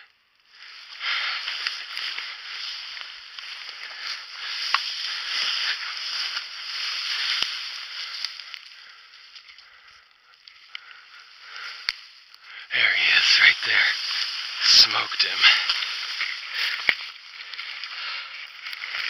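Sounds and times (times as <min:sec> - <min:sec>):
twigs snapping: 0:00.4 - 0:12.6, 0:13.6 - 0:19.0
dry leaves rustling and crackling: 0:00.4 - 0:19.0.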